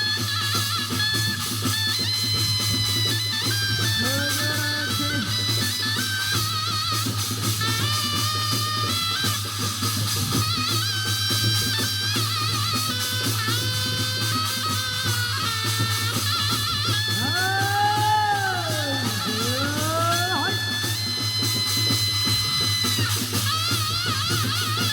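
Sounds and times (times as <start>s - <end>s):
reed wind instrument melody: 0.0s - 24.9s.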